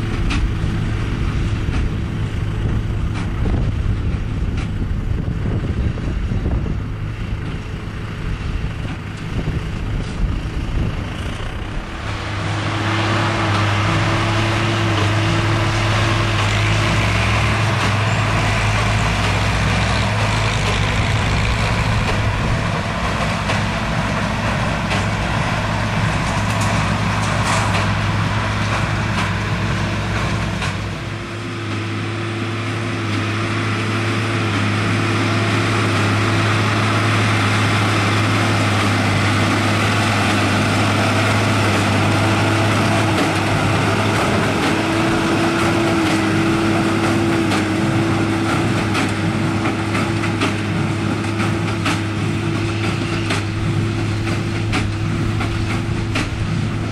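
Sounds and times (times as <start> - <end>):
loud steady engine hum: 0.0 - 56.9
tractor and baler running: 0.0 - 56.9.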